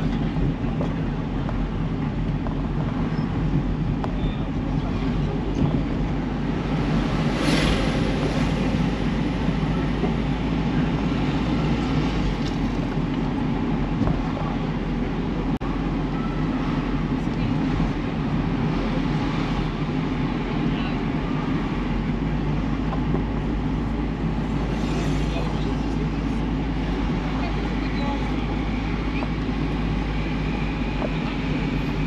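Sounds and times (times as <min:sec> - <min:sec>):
car engine and road noise: 0:00.0 - 0:32.0
rush of noise: 0:00.0 - 0:32.0.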